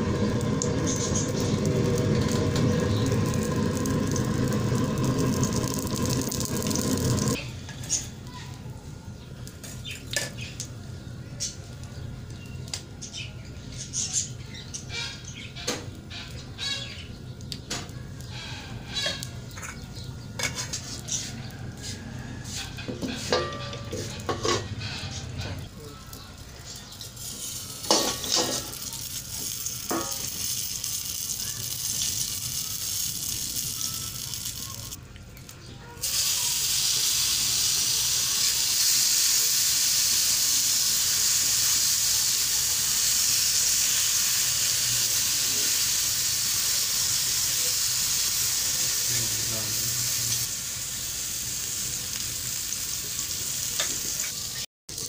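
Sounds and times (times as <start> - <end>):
oil sizzling: 0.0 - 55.0.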